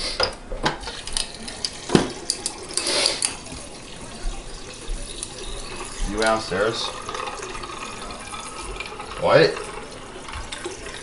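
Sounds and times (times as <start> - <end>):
water running into plastic bottle: 0.8 - 11.0.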